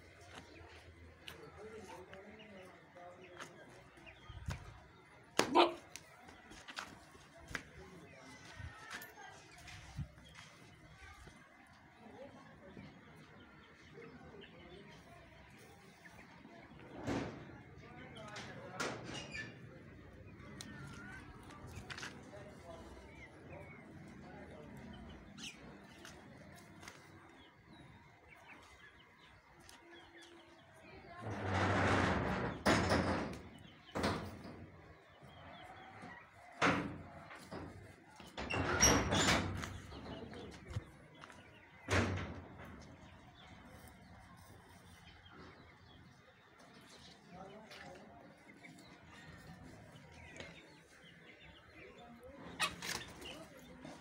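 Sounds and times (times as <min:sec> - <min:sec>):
small birds chirping: 0:00.0 - 0:17.0, 0:17.6 - 0:31.5, 0:32.4 - 0:54.0.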